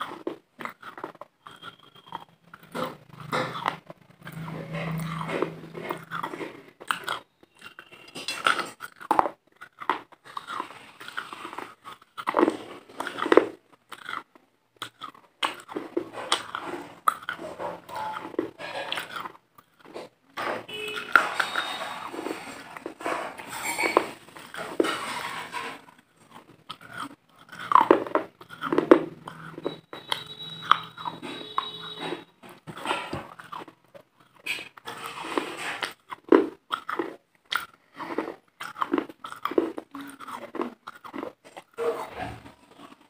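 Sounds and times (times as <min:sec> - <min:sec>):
crunchy chewing of brittle food: 0:00.0 - 0:43.0.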